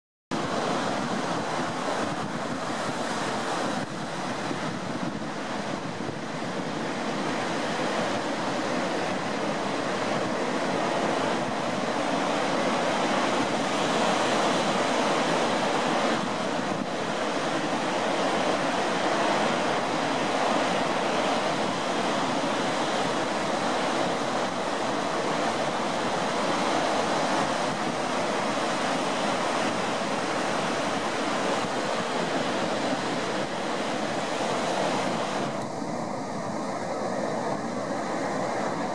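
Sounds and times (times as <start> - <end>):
ocean surf on beach: 0.3 - 38.9
wind on microphone: 0.3 - 38.9.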